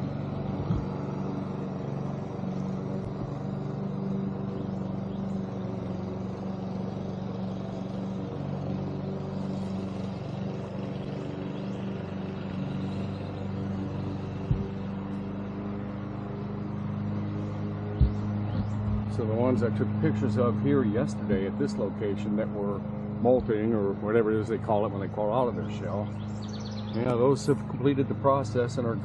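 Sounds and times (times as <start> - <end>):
low engine-like hum: 0.0 - 29.0.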